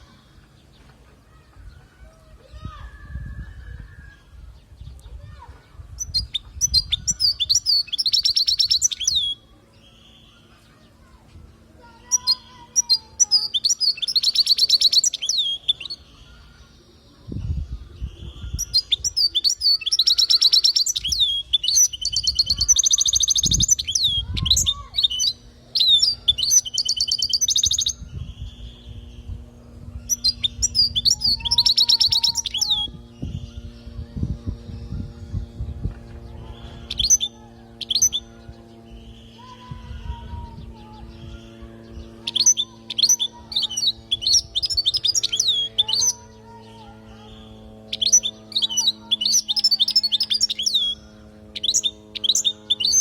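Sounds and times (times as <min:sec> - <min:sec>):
bird twittering trills: 0:00.0 - 0:53.0.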